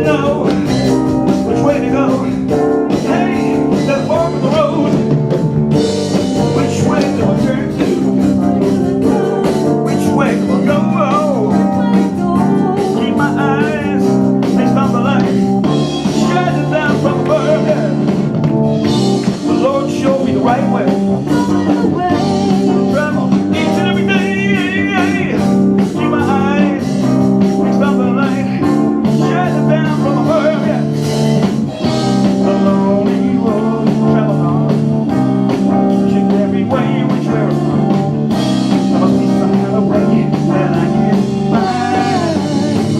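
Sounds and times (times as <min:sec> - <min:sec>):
bass notes: 0:00.0 - 0:42.9
bending guitar lead line: 0:00.0 - 0:42.9
drum kit: 0:00.0 - 0:42.9
electric guitar: 0:00.0 - 0:42.9.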